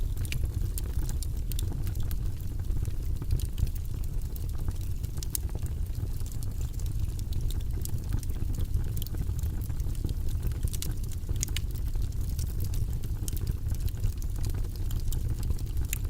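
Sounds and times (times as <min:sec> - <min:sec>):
fire crackles and pops: 0:00.0 - 0:16.0
fire flames rumbling: 0:00.0 - 0:16.0.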